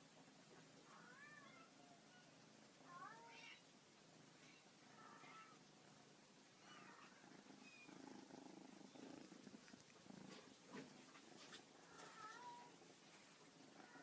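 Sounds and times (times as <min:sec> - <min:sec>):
kittens purring: 0:00.0 - 0:14.0.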